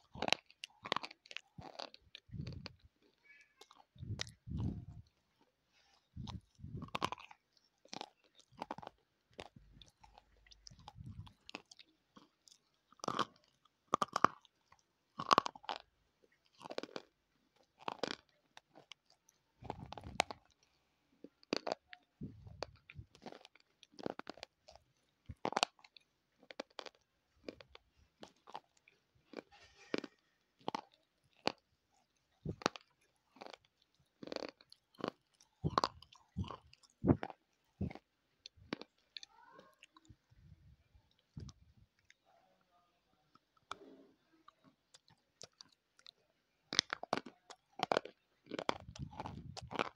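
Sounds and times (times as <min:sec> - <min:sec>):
crunchy chewing of chalk: 0:00.0 - 0:40.5, 0:43.3 - 0:49.9.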